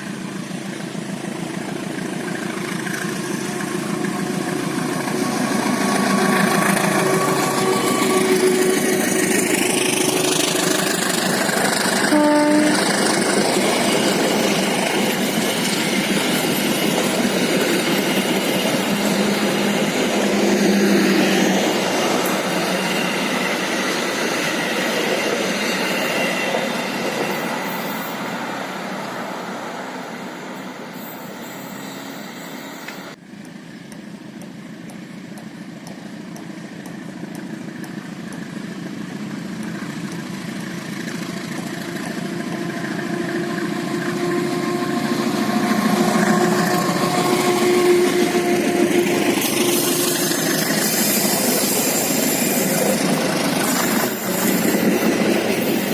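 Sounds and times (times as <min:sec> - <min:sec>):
train passing on rails: 0:00.0 - 0:55.9.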